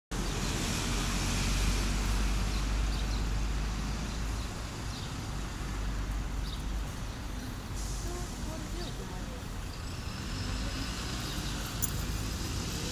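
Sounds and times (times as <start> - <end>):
distant road traffic rumble: 0.1 - 12.9.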